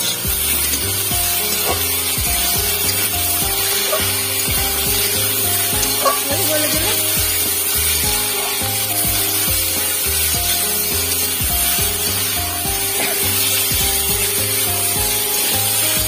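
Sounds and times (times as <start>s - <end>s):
background music with low beat: 0.0s - 16.0s
potatoes frying: 0.0s - 16.0s
spatula scraping a pan: 0.0s - 16.0s.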